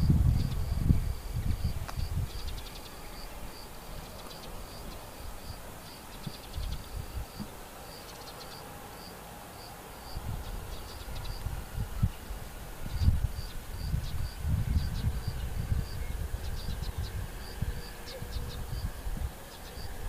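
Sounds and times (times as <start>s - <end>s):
insect chirping: 0.0s - 11.5s, 12.3s - 20.0s.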